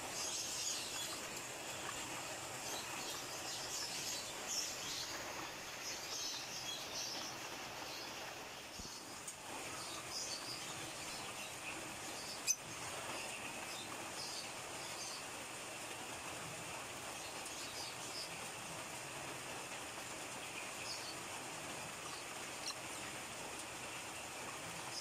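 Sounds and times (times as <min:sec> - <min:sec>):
small birds chirping: 0:00.0 - 0:18.7, 0:19.9 - 0:25.0.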